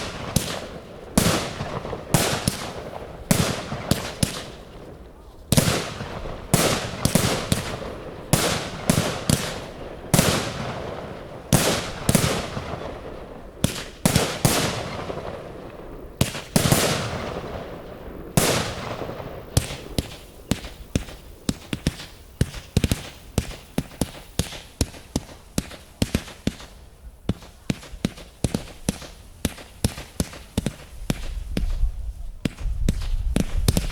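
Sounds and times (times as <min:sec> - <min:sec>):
firework bangs with echo: 0:00.0 - 0:31.8
rapid sharp firework cracks: 0:00.0 - 0:33.9.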